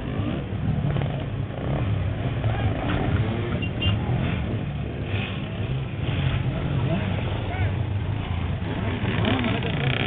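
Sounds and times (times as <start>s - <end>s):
crowd voices: 0.9s - 10.0s.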